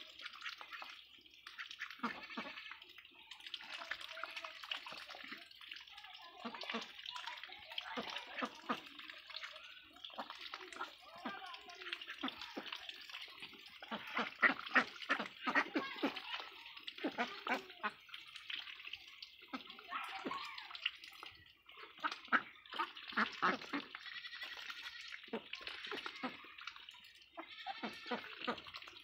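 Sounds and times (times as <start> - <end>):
ducks slurping wet feed: 0.0 - 29.0.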